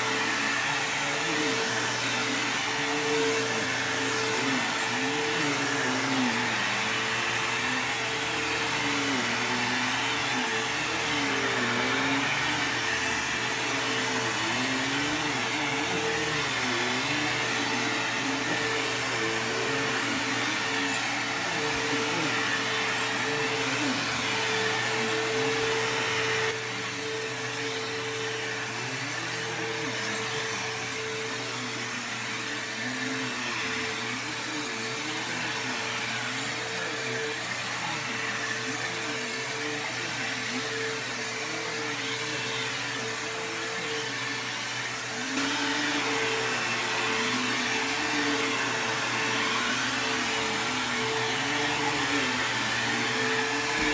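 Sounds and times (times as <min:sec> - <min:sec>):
vacuum cleaner motor whine: 0:00.0 - 0:53.9.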